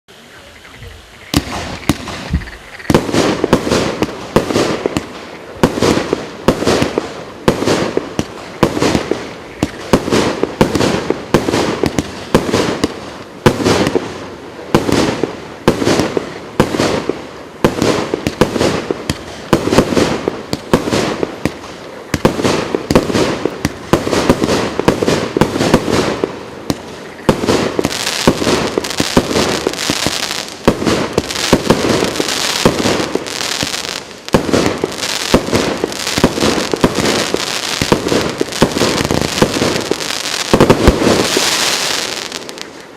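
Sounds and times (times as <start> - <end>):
fireworks crackling: 0.1 - 42.9
fireworks bangs: 1.2 - 42.9.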